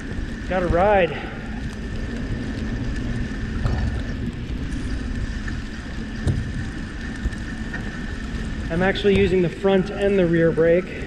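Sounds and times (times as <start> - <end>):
bike tyres rolling through snow: 0.0 - 11.0.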